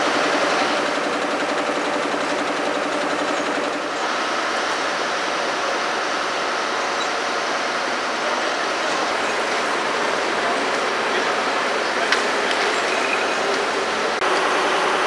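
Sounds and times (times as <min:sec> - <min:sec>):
diesel engine idling: 0:00.0 - 0:15.0
running machinery rushing noise: 0:00.0 - 0:15.0.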